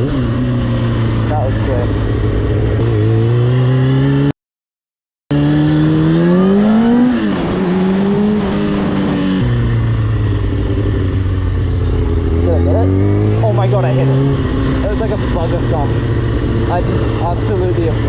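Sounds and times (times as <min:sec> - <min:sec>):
motorcycle engine accelerating: 0:00.0 - 0:04.4, 0:05.3 - 0:18.0.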